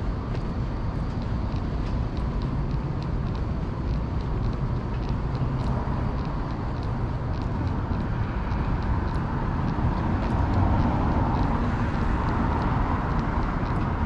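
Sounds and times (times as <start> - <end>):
footsteps on pavement: 0.0 - 14.0
low rumble of traffic: 0.0 - 14.0.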